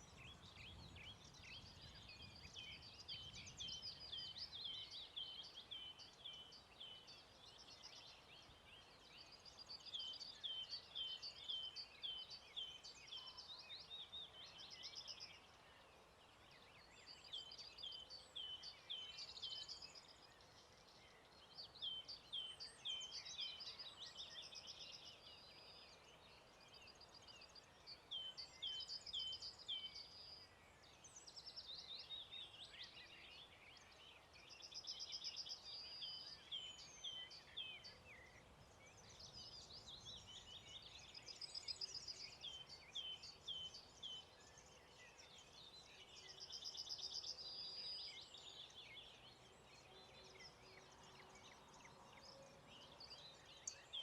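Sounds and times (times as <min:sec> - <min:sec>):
faint dawn chorus birdsong: 0:00.0 - 0:54.0.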